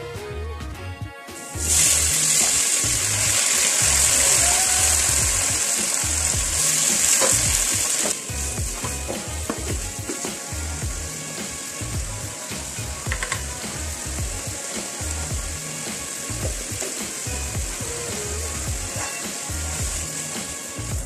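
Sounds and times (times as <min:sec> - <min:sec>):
background music with steady beat: 0:00.0 - 0:21.0
vegetables sizzling in hot oil: 0:01.4 - 0:21.0.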